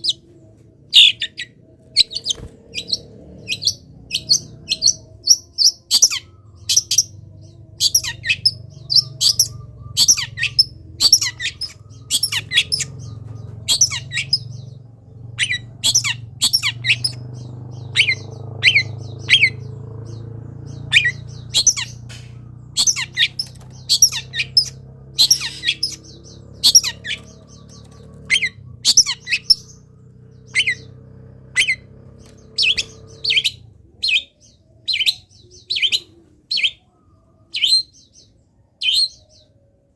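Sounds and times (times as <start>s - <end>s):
shrike singing sharp calls: 0.0s - 39.4s.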